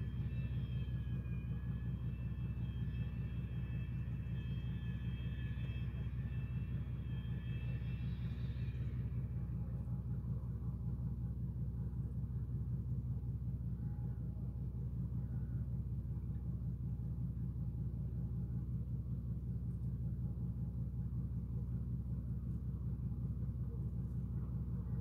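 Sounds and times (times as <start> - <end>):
low rumble with faint hum: 0.0 - 25.0.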